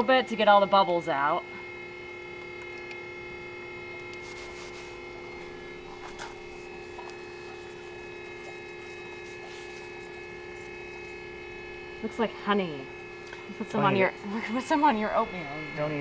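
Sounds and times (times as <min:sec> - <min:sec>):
electric oil pump humming: 0:00.0 - 0:16.0.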